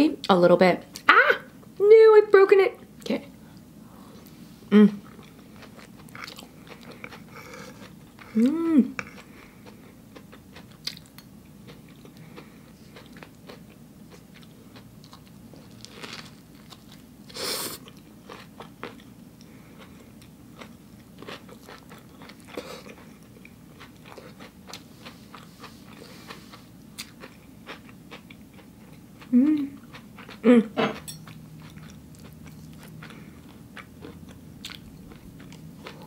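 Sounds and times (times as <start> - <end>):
person chewing crunchy food: 5.0 - 36.0.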